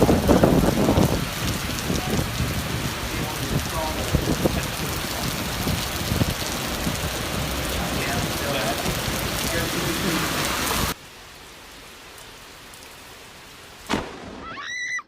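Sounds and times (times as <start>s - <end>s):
heavy rain on hard surfaces: 0.0s - 15.0s.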